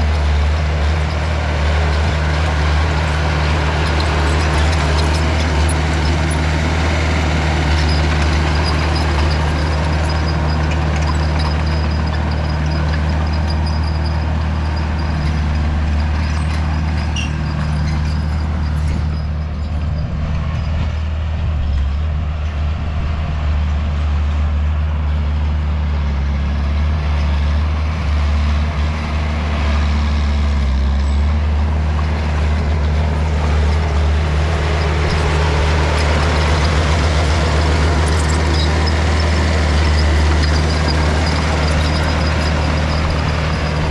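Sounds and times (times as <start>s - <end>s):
diesel engine drone: 0.0s - 43.9s.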